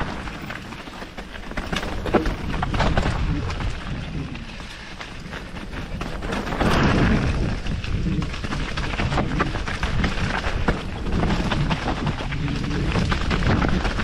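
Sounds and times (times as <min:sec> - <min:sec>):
bike knocking and rattling: 0:00.0 - 0:14.0
tyres and wind rumbling: 0:00.0 - 0:14.0.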